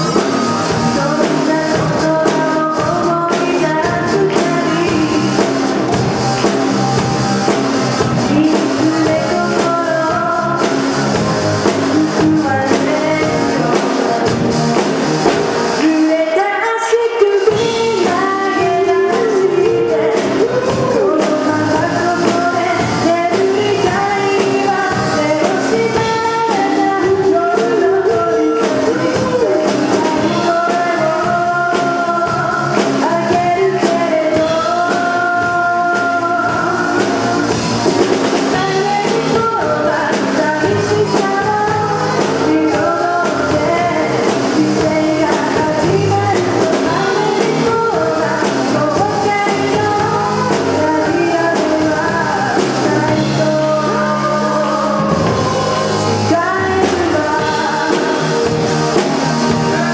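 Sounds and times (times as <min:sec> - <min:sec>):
bass guitar: 0:00.0 - 0:59.9
drum kit: 0:00.0 - 0:59.9
electric guitar: 0:00.0 - 0:59.9
keyboard: 0:00.0 - 0:59.9
woman singing lead: 0:00.0 - 0:59.9.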